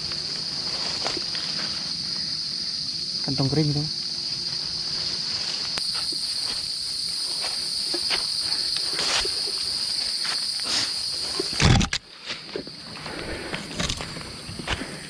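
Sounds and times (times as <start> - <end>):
footsteps on trail: 0.0 - 2.4, 4.3 - 11.6, 12.2 - 15.0
insects droning: 0.0 - 15.0.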